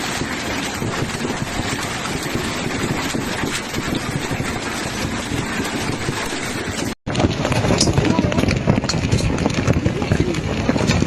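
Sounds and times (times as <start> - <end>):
hailstones pelting hard surfaces: 0.0 - 11.0.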